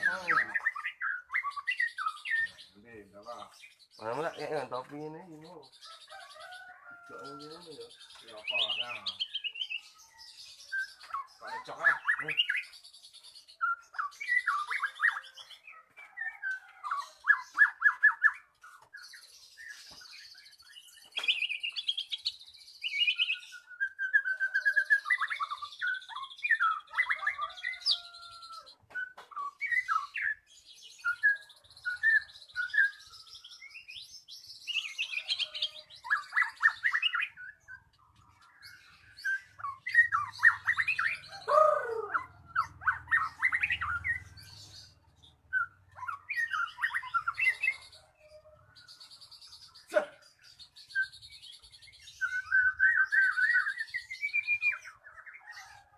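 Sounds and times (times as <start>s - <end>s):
bird singing trills and whistles: 0.0s - 55.9s.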